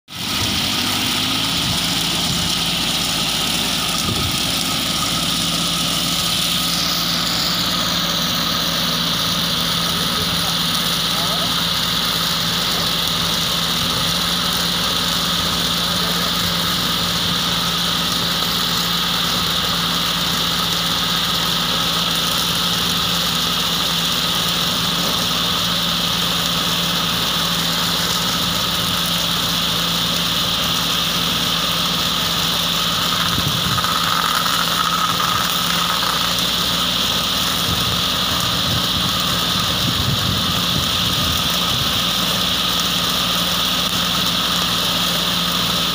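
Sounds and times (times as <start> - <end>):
tractor engine running: 0.1 - 45.9.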